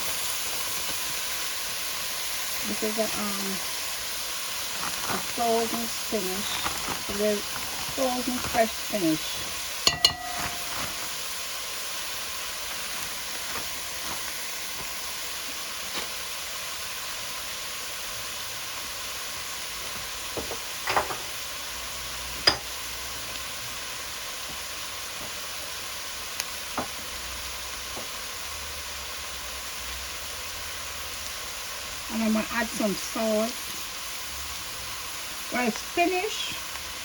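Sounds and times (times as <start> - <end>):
spinach sizzling in hot oil: 0.0 - 37.0.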